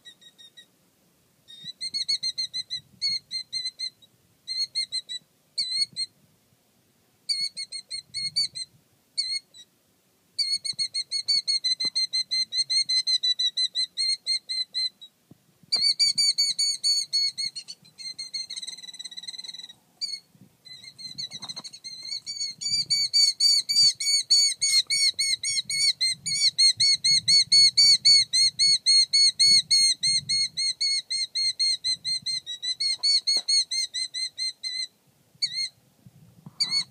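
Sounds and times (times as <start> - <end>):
killdeer calling: 0.0 - 0.7, 1.5 - 6.1, 7.3 - 9.7, 10.4 - 35.8, 36.5 - 36.9.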